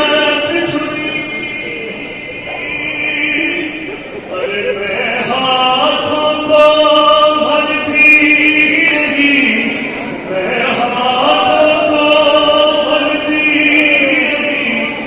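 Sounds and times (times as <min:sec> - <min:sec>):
man chanting over loudspeakers: 0:00.0 - 0:15.0.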